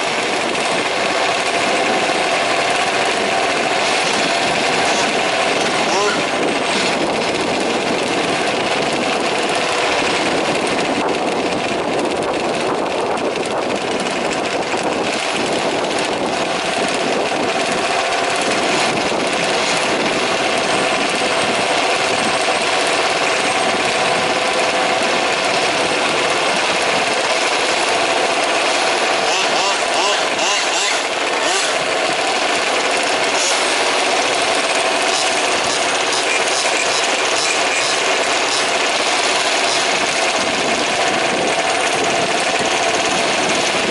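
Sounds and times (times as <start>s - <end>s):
rc truck engines buzzing: 0.0s - 43.9s.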